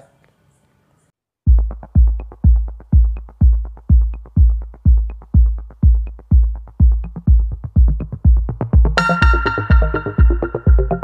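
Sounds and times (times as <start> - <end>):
heavy drum machine kick: 1.5 - 11.0.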